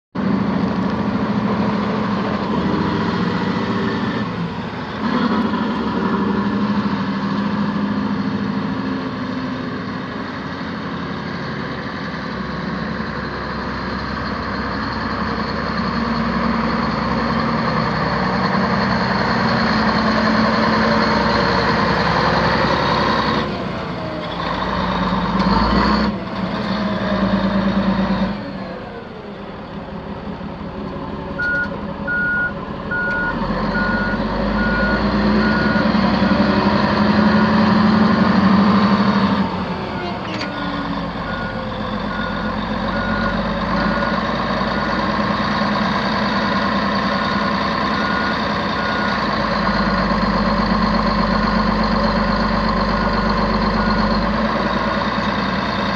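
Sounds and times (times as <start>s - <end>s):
diesel truck engine running: 0.2s - 55.9s.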